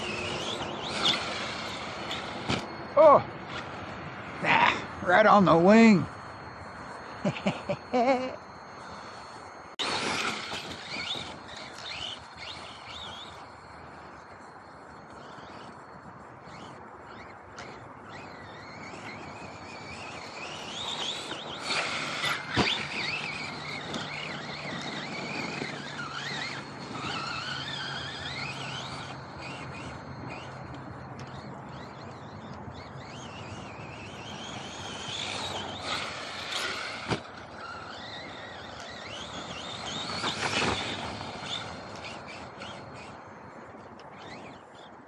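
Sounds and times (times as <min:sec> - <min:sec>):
rc truck motor whining: 0:00.0 - 0:45.0.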